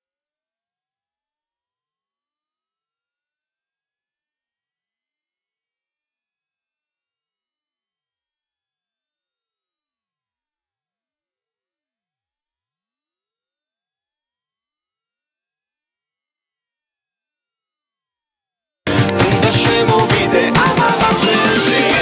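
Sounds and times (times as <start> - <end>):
high sine tone rising in pitch: 0.0 - 20.7.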